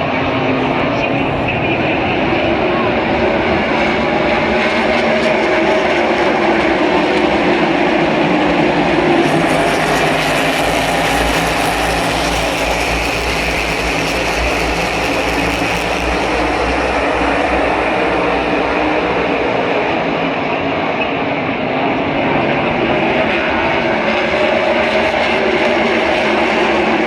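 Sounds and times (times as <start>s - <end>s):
race car engines roaring: 0.0s - 27.0s.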